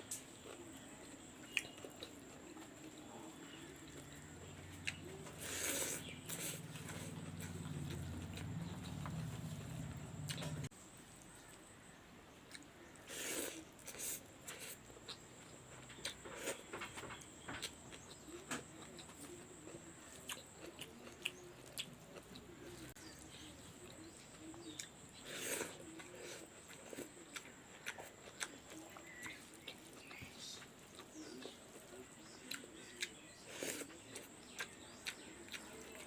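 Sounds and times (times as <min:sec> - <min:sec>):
person chewing and smacking: 0:00.4 - 0:10.7, 0:13.8 - 0:36.0.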